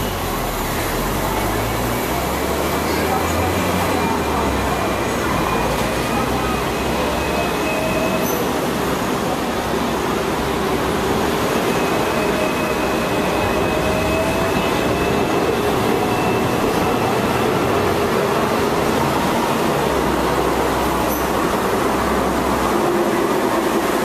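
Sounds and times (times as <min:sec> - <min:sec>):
tram rumble: 0:00.0 - 0:24.0.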